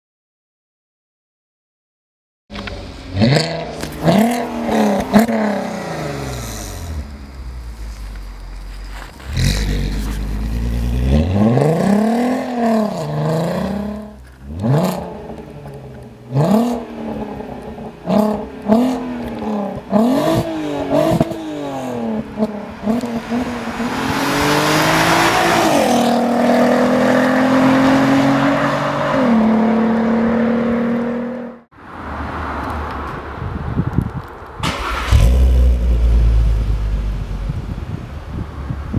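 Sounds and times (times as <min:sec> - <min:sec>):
car engine revving: 0:02.5 - 0:31.7, 0:34.6 - 0:37.6.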